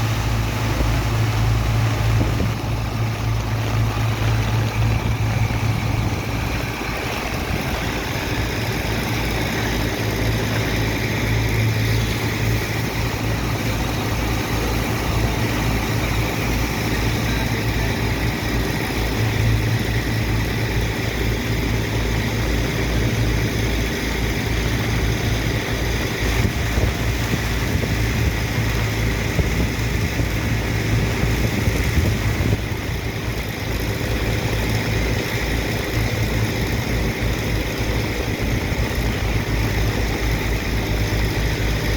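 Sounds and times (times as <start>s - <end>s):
constant rushing noise: 0.0s - 41.9s
large engine humming and pulsing: 0.0s - 41.9s.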